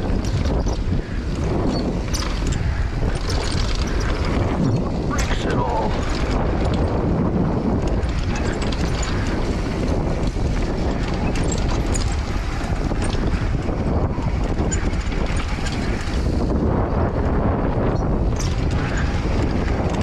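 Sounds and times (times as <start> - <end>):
tyres on dirt and stones: 0.0 - 17.2, 18.0 - 20.0
small clicks and rattles: 0.0 - 20.0
wind rush over microphone: 0.0 - 20.0.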